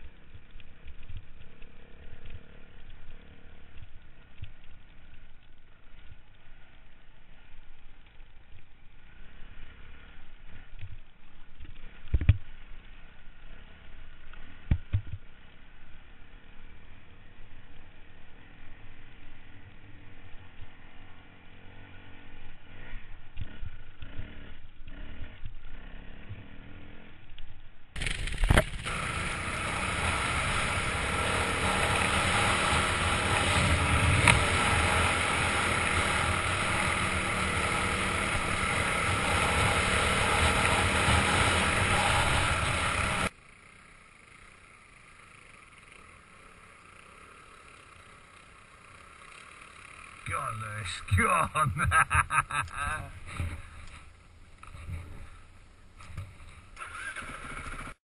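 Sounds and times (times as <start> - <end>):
off-road motorcycles running: 0.0 - 58.0.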